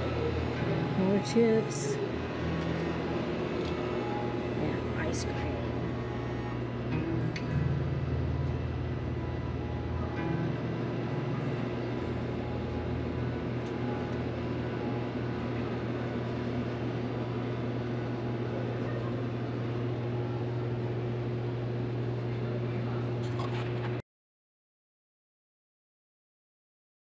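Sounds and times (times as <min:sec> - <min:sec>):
freezer humming and whirring: 0:00.0 - 0:24.0.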